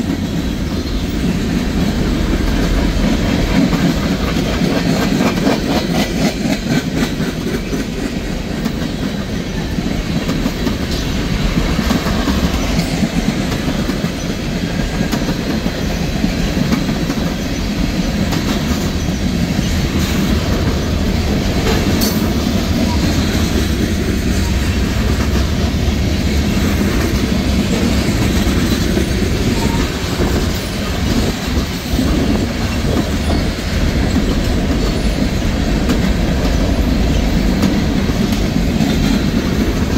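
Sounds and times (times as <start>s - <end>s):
train wheels rumbling on rails: 0.0s - 39.9s
wheels clacking over rail joints: 0.0s - 39.9s.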